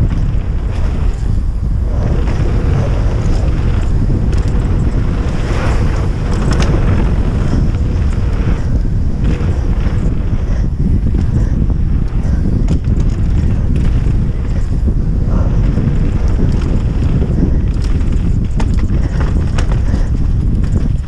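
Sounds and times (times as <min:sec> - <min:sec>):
tyres rolling over gravel: 0:00.0 - 0:21.0
wind buffeting microphone: 0:00.0 - 0:21.0.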